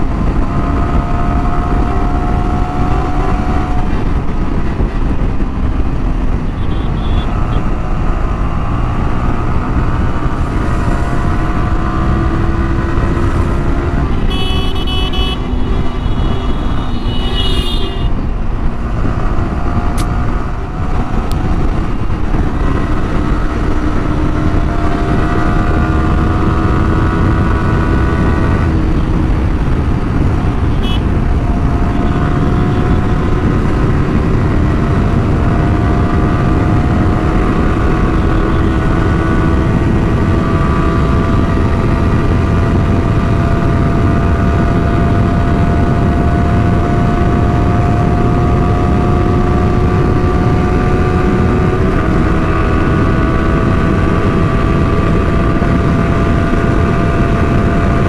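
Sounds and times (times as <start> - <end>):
motorcycle engine accelerating: 0.0 - 58.0
wind noise on microphone: 0.0 - 58.0.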